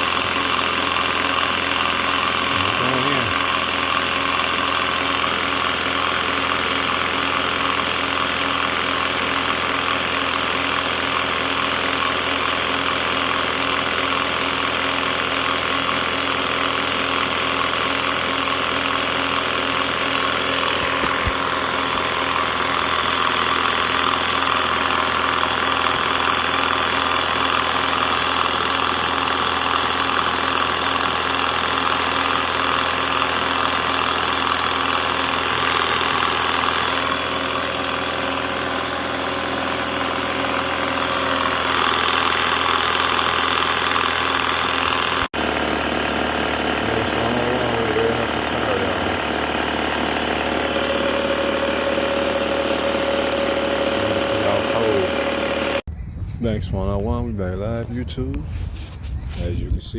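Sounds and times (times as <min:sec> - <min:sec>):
air compressor running: 0:00.0 - 0:55.9.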